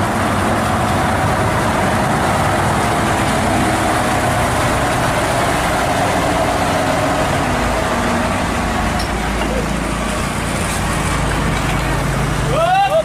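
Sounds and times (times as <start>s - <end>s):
cement mixer truck diesel engine: 0.0s - 13.0s.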